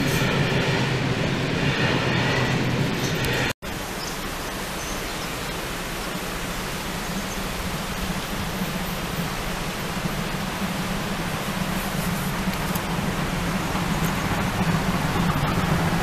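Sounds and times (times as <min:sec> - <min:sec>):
wind hiss on microphone: 0:03.2 - 0:16.0.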